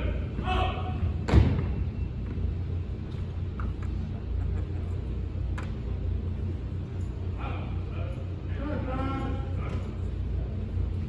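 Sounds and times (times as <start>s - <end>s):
low rumble of room noise: 0.0s - 11.0s.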